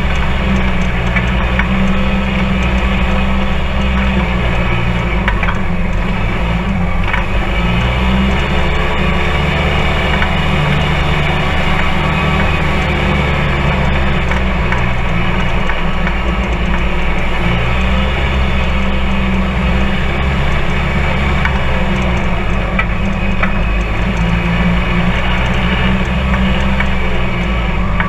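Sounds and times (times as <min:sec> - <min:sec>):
off-road vehicle engine drone: 0:00.0 - 0:28.0
road noise: 0:00.0 - 0:28.0.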